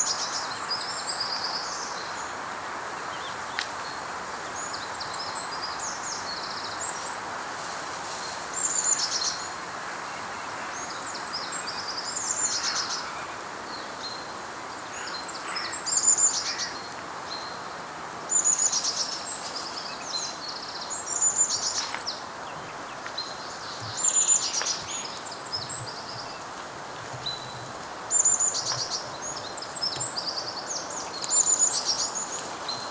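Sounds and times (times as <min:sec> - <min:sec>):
outdoor background hiss: 0:00.0 - 0:32.9.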